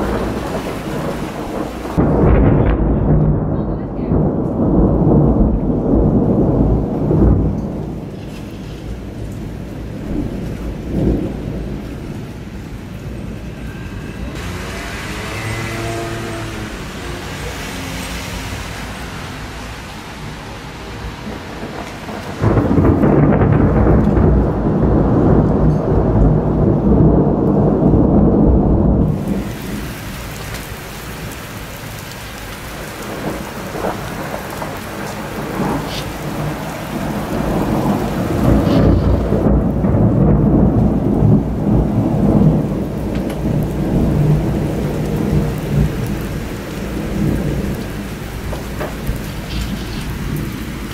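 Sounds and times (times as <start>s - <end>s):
steady rain: 0.0s - 50.9s
thunder rumbling: 0.0s - 50.9s.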